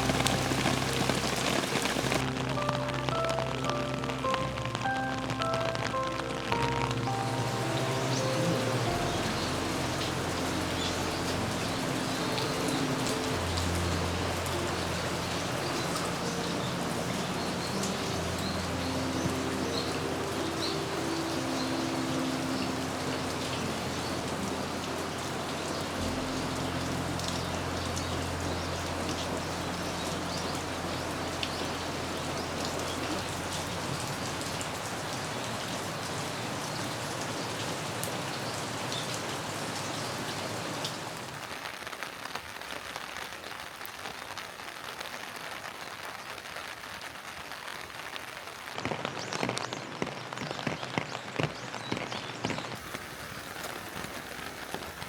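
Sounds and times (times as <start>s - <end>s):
heavy rain falling: 0.0s - 55.0s
raindrops ticking and pattering: 0.0s - 55.0s.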